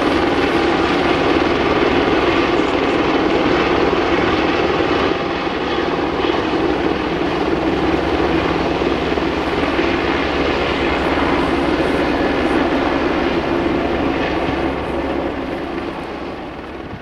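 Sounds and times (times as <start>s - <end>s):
loud mechanical drone: 0.0s - 17.0s.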